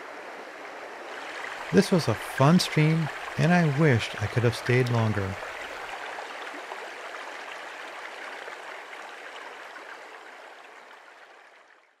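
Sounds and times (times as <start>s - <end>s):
stream babbling over stones: 0.0s - 12.0s.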